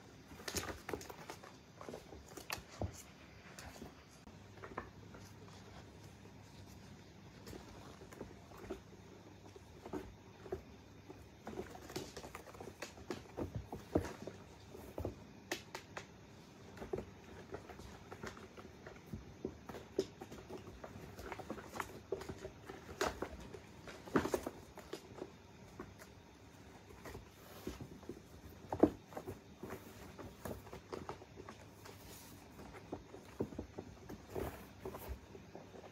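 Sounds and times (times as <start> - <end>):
kittens' paws scampering: 0.0 - 35.9.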